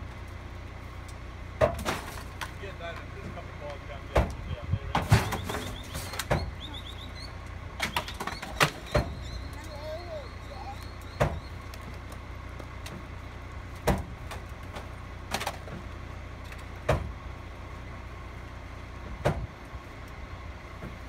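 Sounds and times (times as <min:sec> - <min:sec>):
garbage truck engine idling: 0:00.0 - 0:21.0.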